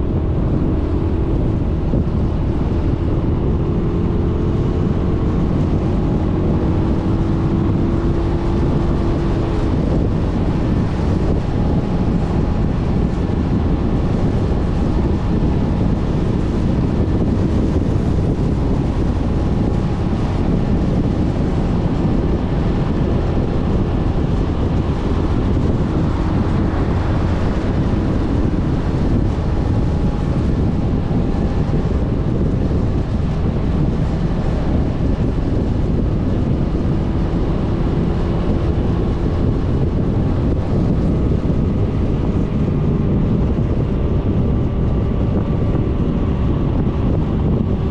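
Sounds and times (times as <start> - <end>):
scooter engine drone: 0.0 - 47.9
wind rushing over microphone: 0.0 - 47.9.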